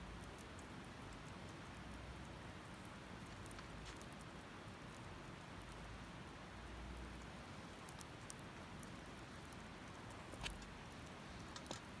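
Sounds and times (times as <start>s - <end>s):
wood fire crackling and hissing: 0.0s - 12.0s.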